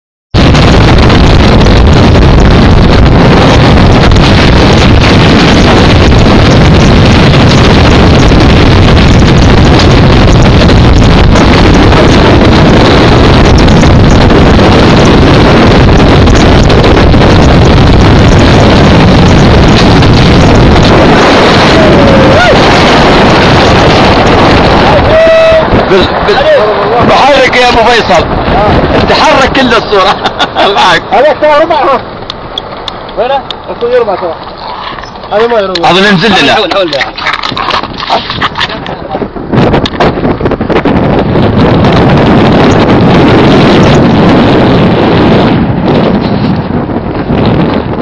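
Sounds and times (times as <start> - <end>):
vehicle engine and tyre noise: 0.3 - 48.0
wind buffeting microphone: 0.3 - 48.0.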